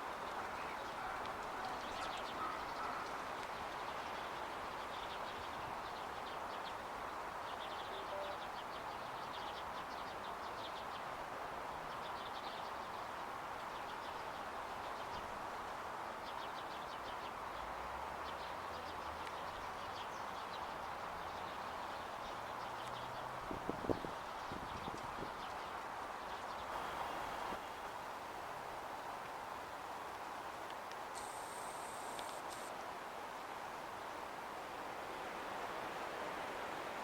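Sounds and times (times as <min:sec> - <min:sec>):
outdoor background hiss: 0:00.0 - 0:37.0.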